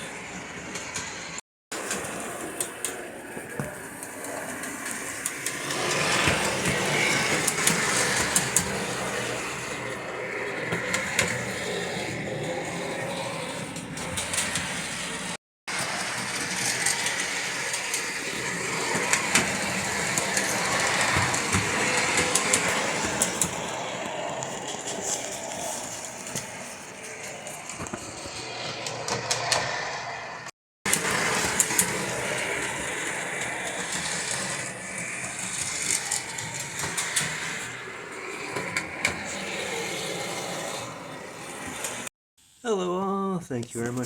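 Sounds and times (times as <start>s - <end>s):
wheels clicking on rails: 0.0s - 42.1s
toy train motor whirring: 1.8s - 42.1s.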